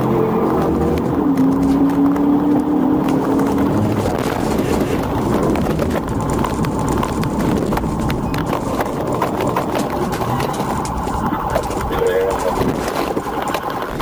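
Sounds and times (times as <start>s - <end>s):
car engine running hard: 0.0s - 14.0s
road noise: 0.0s - 14.0s
wind noise: 0.0s - 14.0s.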